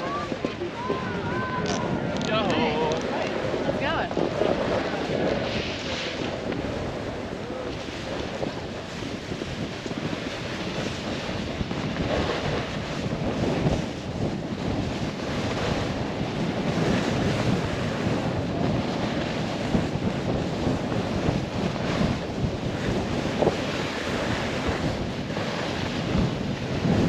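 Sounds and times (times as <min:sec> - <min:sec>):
snowboard carving across snow: 0:00.0 - 0:27.0
wind rushing over microphone: 0:00.0 - 0:27.0.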